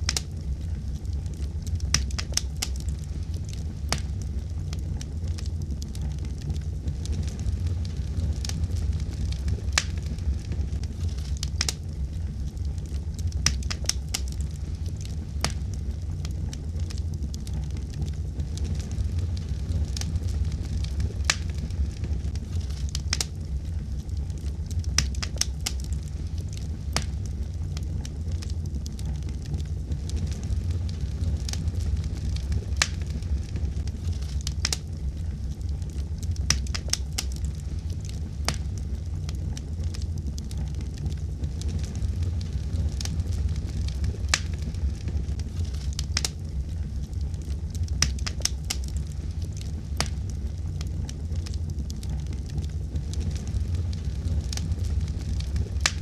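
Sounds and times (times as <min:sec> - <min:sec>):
fire crackling in fireplace: 0:00.0 - 0:56.0.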